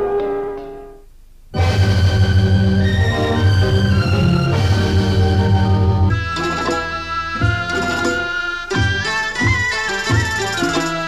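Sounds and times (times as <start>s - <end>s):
instrumental theme music: 1.6s - 11.0s.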